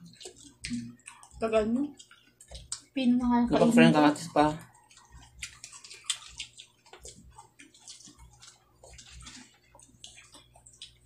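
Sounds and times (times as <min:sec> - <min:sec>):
wet mouth sounds: 0:00.0 - 0:03.6, 0:04.6 - 0:11.0
people chewing: 0:00.0 - 0:11.0.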